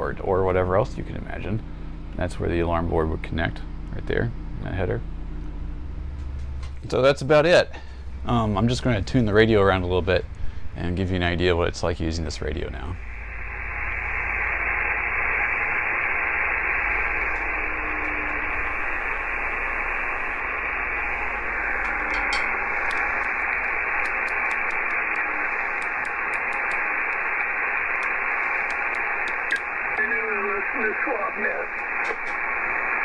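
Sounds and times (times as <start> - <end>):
radio receiver band noise hiss: 6.2 - 33.0.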